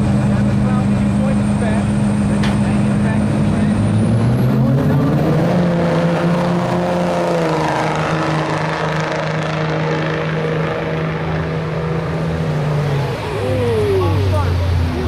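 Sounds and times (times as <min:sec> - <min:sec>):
race vehicle engines droning: 0:00.0 - 0:15.0.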